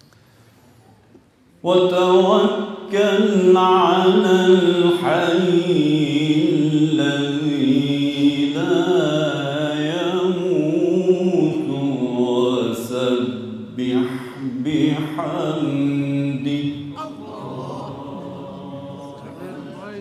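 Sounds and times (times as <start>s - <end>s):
man chanting: 1.6s - 20.0s.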